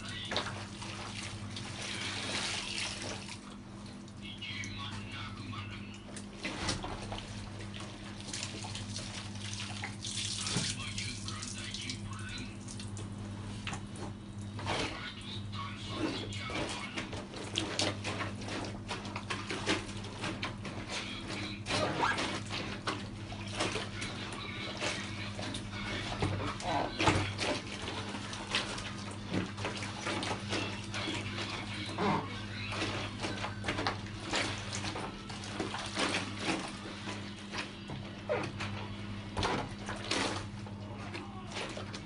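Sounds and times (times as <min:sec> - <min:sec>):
steady low hum: 0:00.0 - 0:42.0
wet laundry squelching and splashing: 0:00.0 - 0:42.0.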